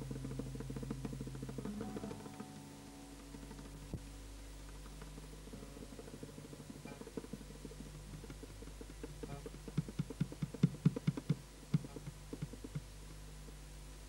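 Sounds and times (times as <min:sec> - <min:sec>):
soft irregular knocks: 0:00.0 - 0:13.6
steady low hum: 0:00.0 - 0:14.0.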